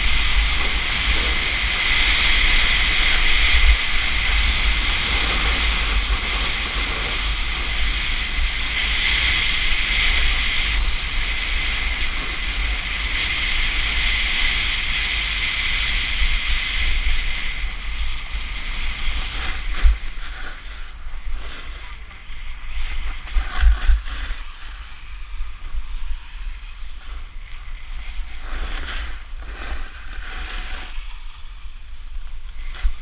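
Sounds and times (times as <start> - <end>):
snowboard sliding on snow: 0.0 - 33.0
wind buffeting microphone: 0.0 - 33.0.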